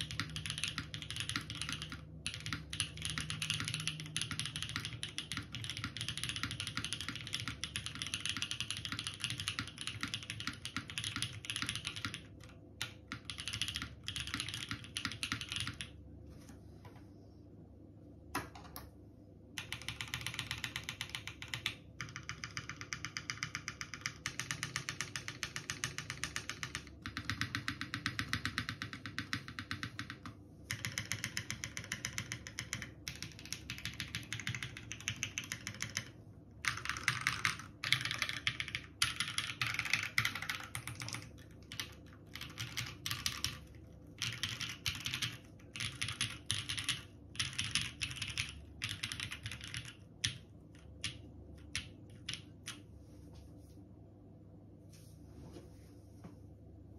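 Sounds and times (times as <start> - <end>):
mechanical keyboard typing: 0.0 - 16.0, 19.5 - 52.9.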